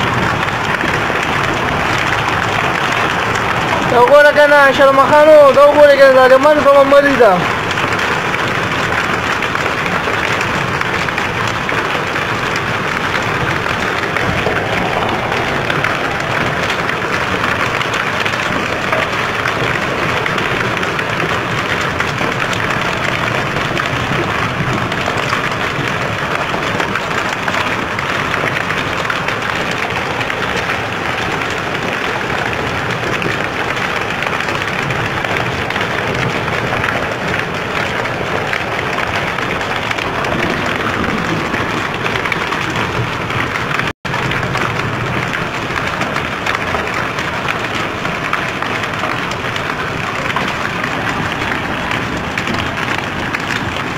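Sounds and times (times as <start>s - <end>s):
hail and rain on concrete: 0.0s - 53.9s.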